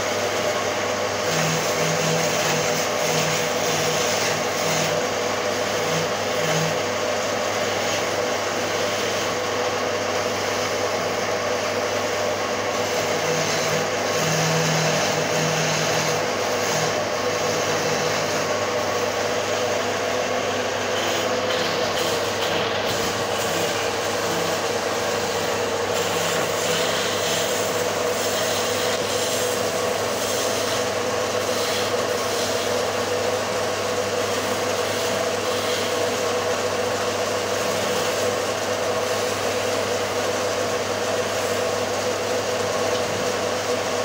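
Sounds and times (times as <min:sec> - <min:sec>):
chisel shaving spinning wood: 0:00.0 - 0:44.0
wood lathe motor hum: 0:00.0 - 0:44.0.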